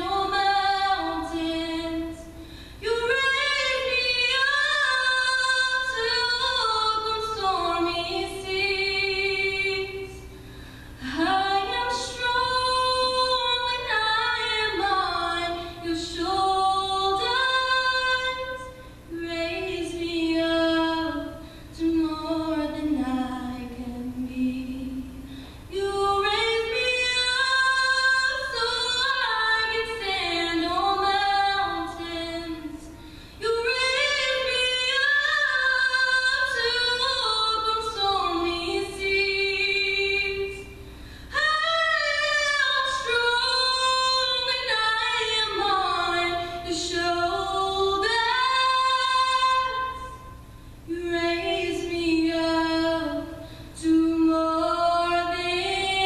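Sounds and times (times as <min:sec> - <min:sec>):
woman singing a cappella: 0:00.0 - 0:56.0.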